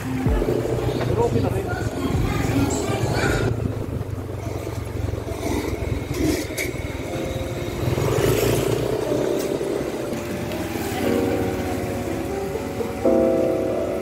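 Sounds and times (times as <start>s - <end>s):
motorcycle engine running: 0.0s - 14.0s
street noise: 0.0s - 14.0s.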